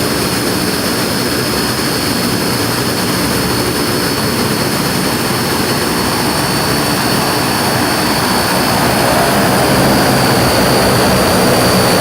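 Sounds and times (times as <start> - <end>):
turboprop engines running: 0.0 - 12.0.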